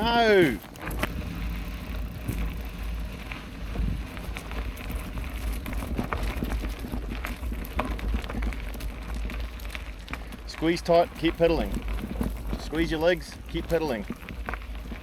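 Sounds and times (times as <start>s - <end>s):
bike tyres crackling over gravel: 0.0s - 15.0s
small clicks and rattles: 0.0s - 15.0s
steady low rumble: 0.0s - 15.0s.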